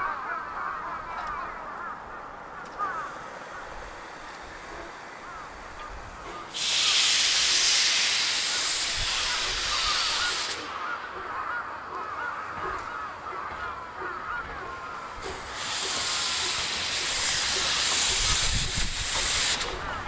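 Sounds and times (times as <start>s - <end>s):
steam locomotive hissing steam: 2.8s - 20.0s.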